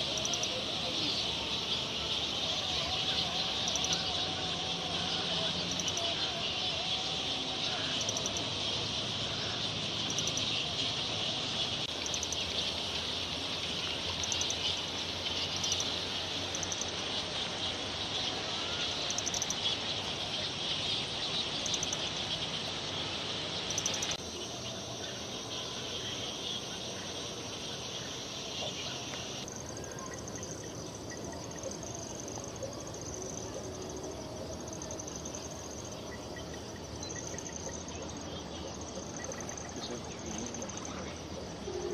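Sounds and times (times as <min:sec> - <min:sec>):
fruit bat colony chattering: 0:00.0 - 0:41.9.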